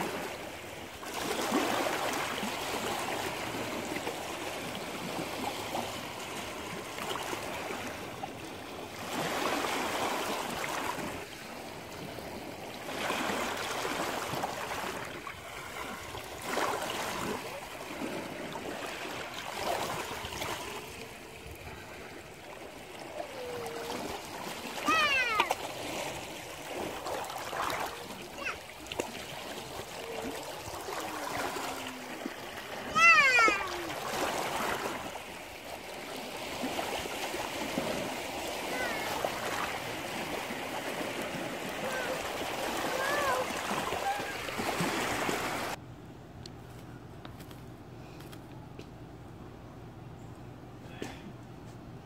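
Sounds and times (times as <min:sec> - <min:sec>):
waves lapping over rocks: 0:00.0 - 0:45.8.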